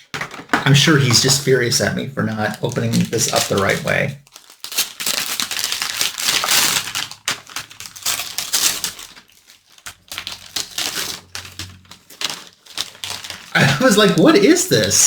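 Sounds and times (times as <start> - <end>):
package wrapping being torn: 0.2 - 15.0.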